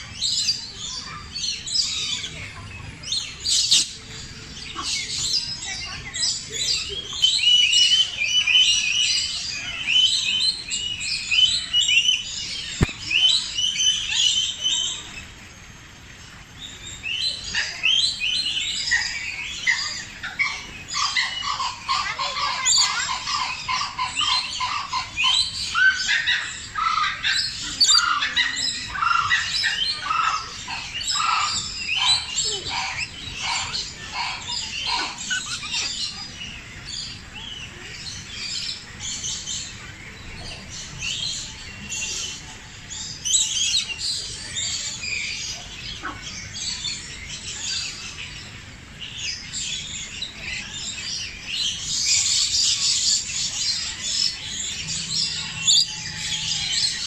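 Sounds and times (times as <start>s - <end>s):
birds chirping chorus: 0.0s - 57.0s.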